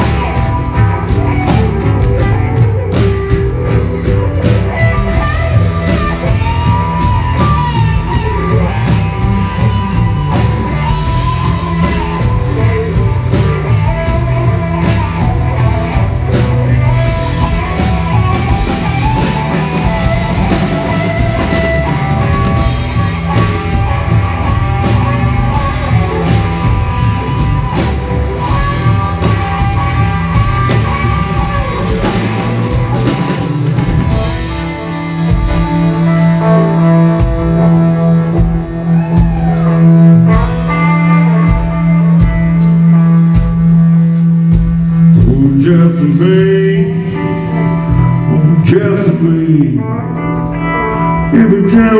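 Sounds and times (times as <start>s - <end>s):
blues-rock band playing: 0.0s - 51.9s
electric guitar long notes: 0.0s - 51.9s.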